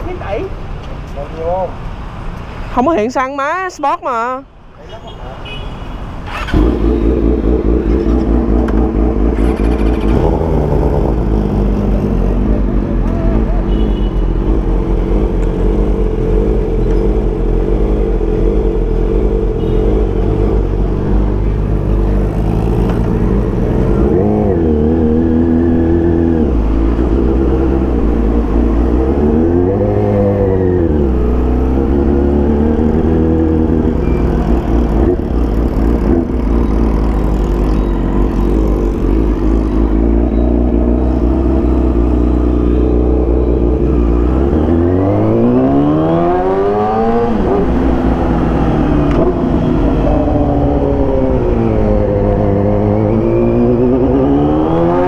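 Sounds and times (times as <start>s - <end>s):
motorcycle engine revving: 6.2s - 55.0s.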